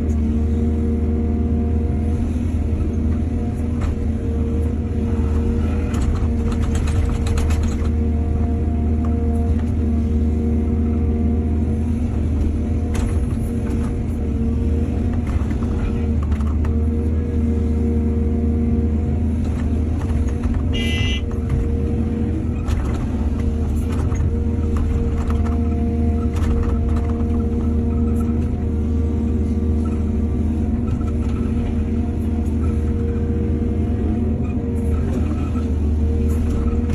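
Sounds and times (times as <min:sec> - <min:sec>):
diesel engine droning: 0:00.0 - 0:36.9.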